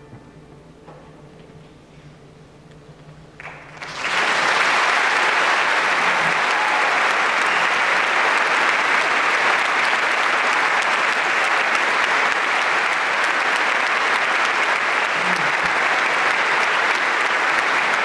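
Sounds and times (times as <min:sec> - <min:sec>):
audience applauding: 0:03.4 - 0:18.0.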